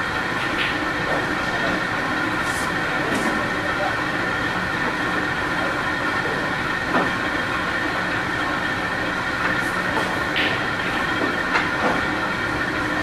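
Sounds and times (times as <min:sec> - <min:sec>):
mechanical room drone: 0:00.0 - 0:13.0.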